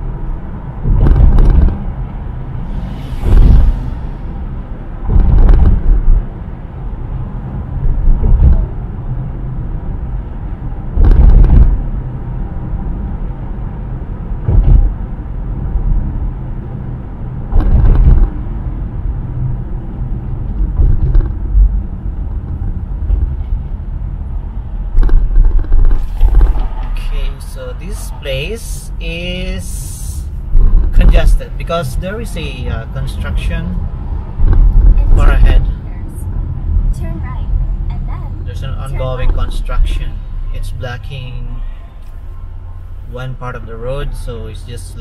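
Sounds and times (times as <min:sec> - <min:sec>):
car road and tyre rumble: 0:00.0 - 0:45.0.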